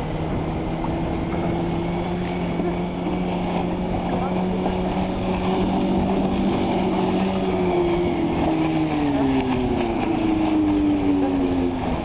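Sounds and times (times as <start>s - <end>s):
motorboat engine running: 0.0s - 12.0s
water: 0.0s - 12.0s.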